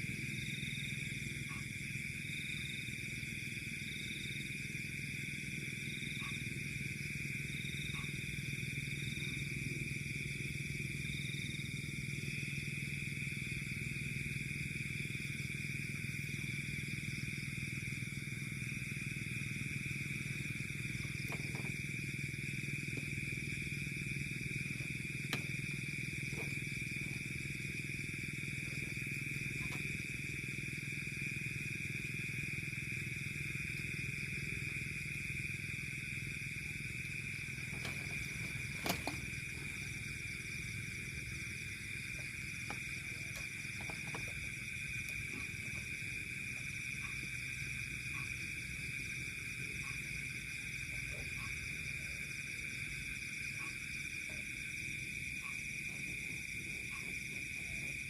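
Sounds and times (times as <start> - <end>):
crickets trilling: 0.0 - 58.0
low steady hum: 0.0 - 58.0.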